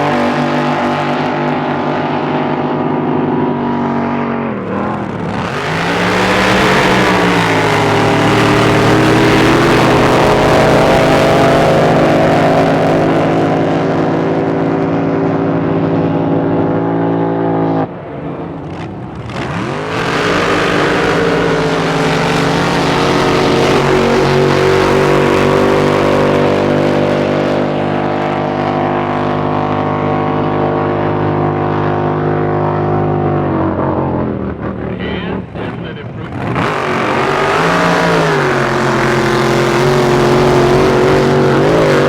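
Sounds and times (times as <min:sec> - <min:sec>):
drag boat engines droning: 0:00.0 - 0:42.0
engine revving: 0:00.0 - 0:42.0.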